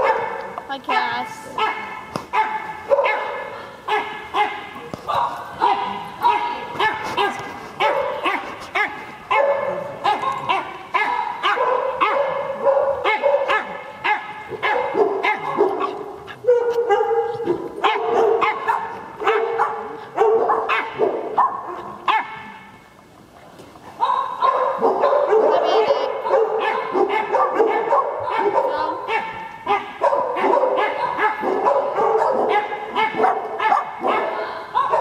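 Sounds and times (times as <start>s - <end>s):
small dogs barking and yipping: 0.0s - 22.6s, 24.0s - 35.0s.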